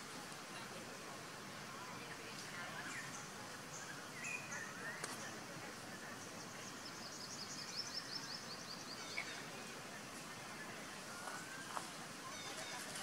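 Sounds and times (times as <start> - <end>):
birds chirping: 0.0 - 13.0
steady background hiss: 0.0 - 13.0.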